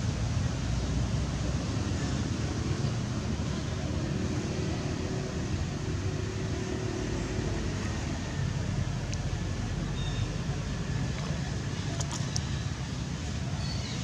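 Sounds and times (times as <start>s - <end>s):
outdoor rumble and hiss: 0.0s - 14.0s.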